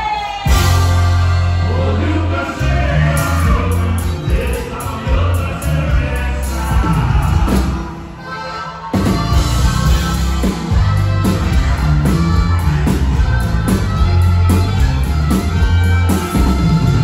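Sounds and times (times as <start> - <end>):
electric guitars: 0.0 - 17.0
steady drum beat: 0.4 - 8.3, 9.0 - 17.0
heavy bass line: 0.4 - 17.0.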